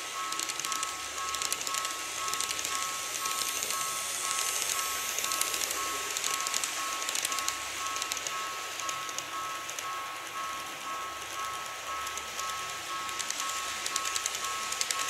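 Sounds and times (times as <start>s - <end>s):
model train wheels clattering: 0.0s - 15.0s.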